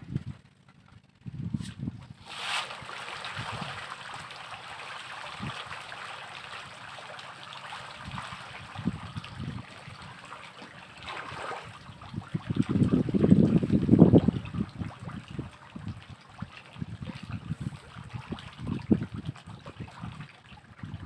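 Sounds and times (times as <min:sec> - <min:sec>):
water splashing and churning: 0:02.1 - 0:21.0.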